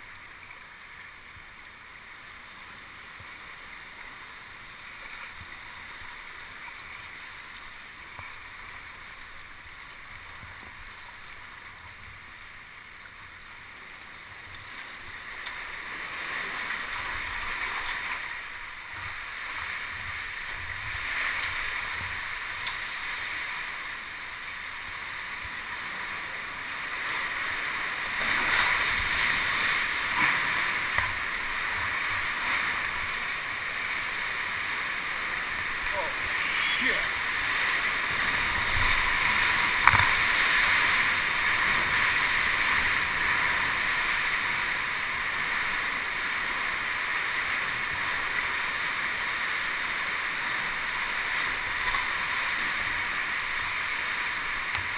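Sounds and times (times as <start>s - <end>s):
sea water rushing around kayak: 0.0s - 54.9s.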